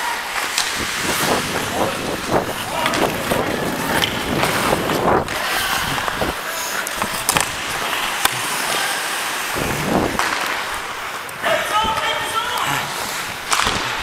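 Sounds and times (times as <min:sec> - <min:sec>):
skate blades scraping ice: 0:00.1 - 0:14.0.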